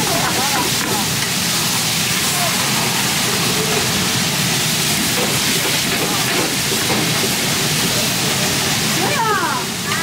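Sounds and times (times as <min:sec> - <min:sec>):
dumplings frying in bubbling oil: 0:00.0 - 0:10.0.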